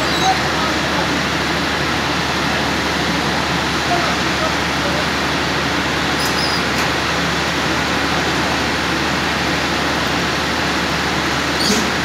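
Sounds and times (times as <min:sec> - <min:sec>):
rail welding machine humming: 0:00.0 - 0:12.0.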